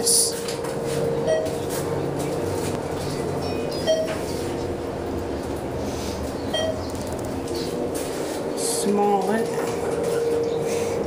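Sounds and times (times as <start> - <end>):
elevator rumble and hum: 0.0 - 11.0.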